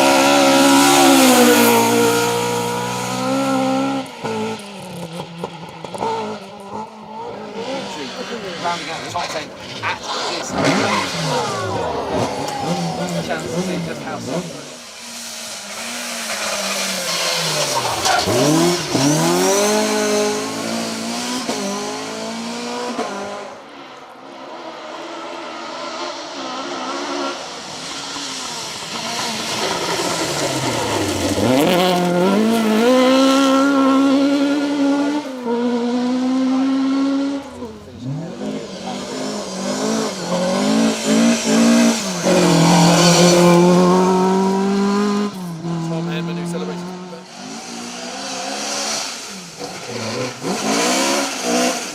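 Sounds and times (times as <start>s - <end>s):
rally car engines revving past: 0.0s - 51.9s.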